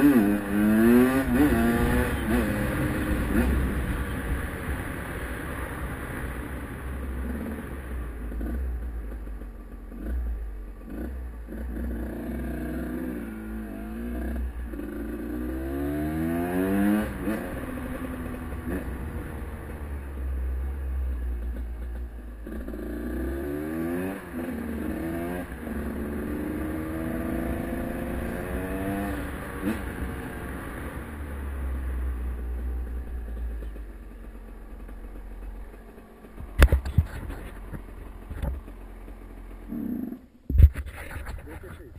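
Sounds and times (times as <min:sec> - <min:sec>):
dirt bike accelerating: 0:00.0 - 0:41.9.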